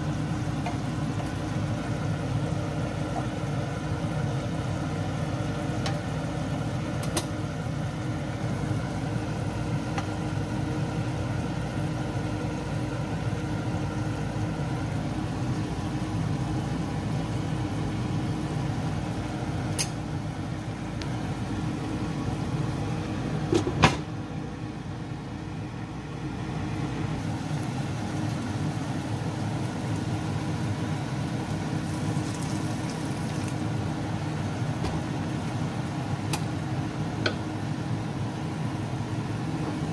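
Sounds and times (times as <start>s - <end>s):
meat boiling in a pan: 0.0s - 39.9s.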